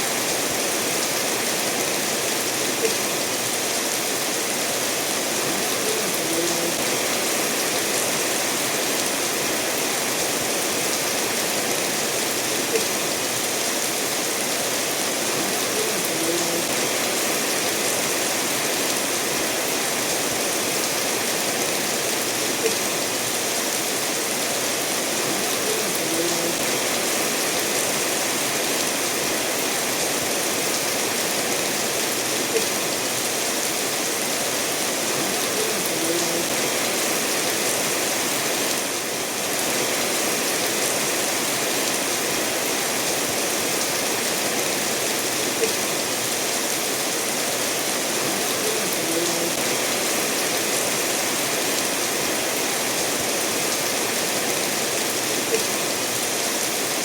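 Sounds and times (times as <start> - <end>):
steady rain falling: 0.0 - 57.0
stream running over stones: 0.0 - 57.0.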